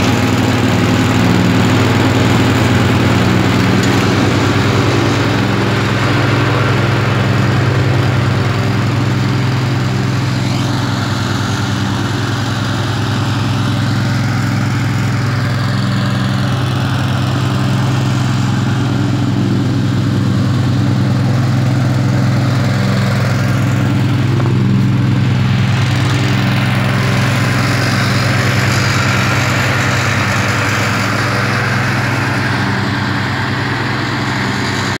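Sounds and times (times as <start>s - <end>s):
ride-on mower engine humming: 0.0s - 35.0s.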